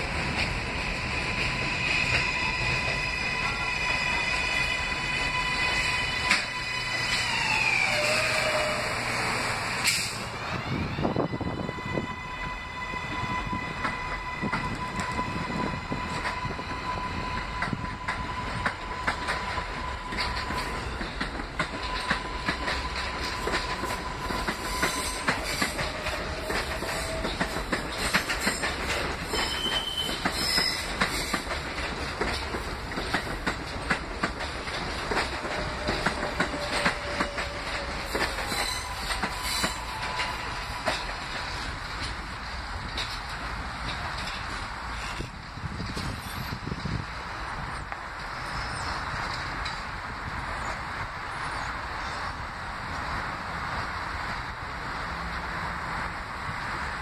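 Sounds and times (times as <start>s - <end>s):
wheels clacking over rail joints: 0.0s - 10.8s, 12.1s - 57.0s
train high whine: 0.0s - 57.0s.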